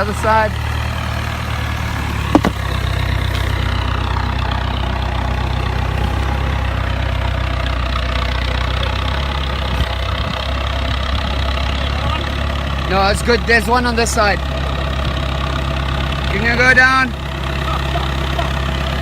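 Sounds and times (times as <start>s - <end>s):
loader engine idling: 0.0s - 19.0s.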